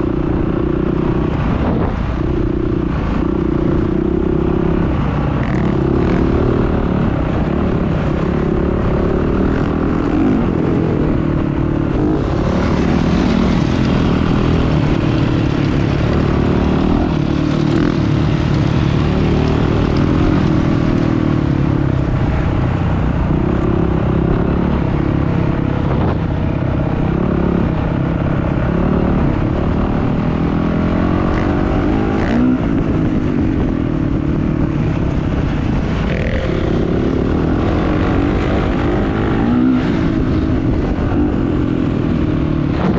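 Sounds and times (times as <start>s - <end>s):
dirt bike engines revving: 0.0s - 42.9s.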